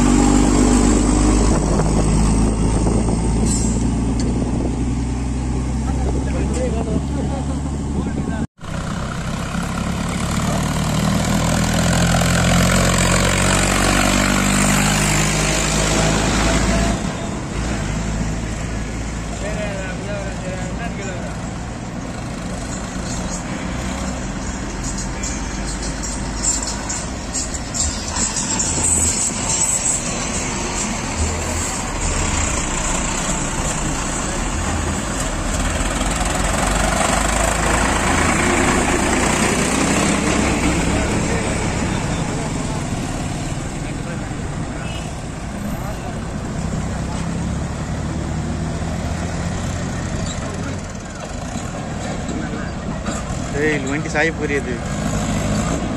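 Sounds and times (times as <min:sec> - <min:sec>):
heavy truck driving: 0:00.0 - 0:55.9
road noise: 0:00.0 - 0:55.9
tractor engine passing by: 0:00.0 - 0:55.9.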